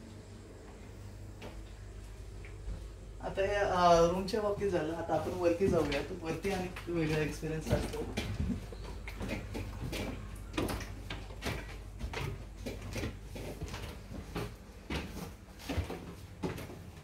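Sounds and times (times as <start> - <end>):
footsteps on indoor stairs: 0.0 - 17.0
steady low hum: 0.0 - 17.0.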